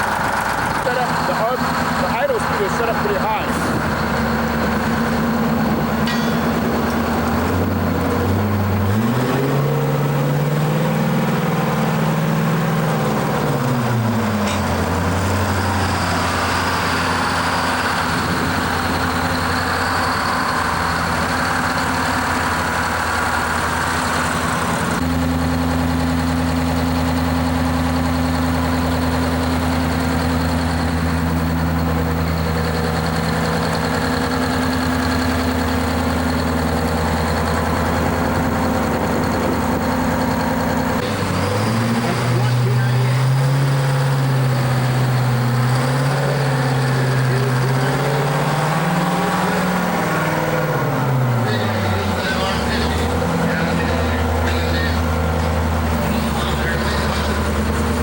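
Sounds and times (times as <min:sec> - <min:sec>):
truck diesel engine idling: 0:00.0 - 0:58.0.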